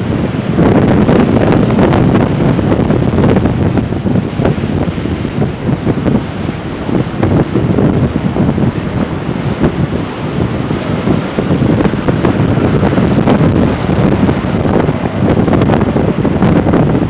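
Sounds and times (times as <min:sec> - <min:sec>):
heavy surf breaking on beach: 0:00.0 - 0:17.0
wind buffeting microphone: 0:00.0 - 0:17.0.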